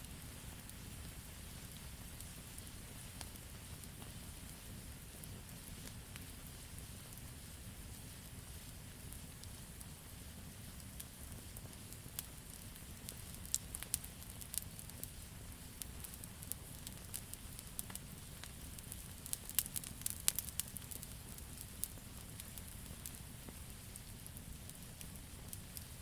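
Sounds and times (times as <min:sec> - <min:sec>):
campfire crackling: 0:00.0 - 0:26.0
low rumble of flames: 0:00.0 - 0:26.0.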